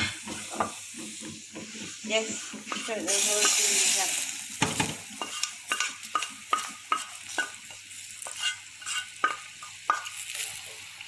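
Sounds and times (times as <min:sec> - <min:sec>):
wooden spatula scraping wok: 0:00.0 - 0:10.8
boiling pot hissing: 0:00.0 - 0:11.0.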